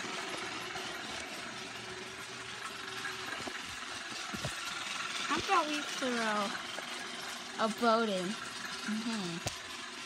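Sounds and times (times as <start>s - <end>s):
toy train motor whirring: 0.0s - 10.0s.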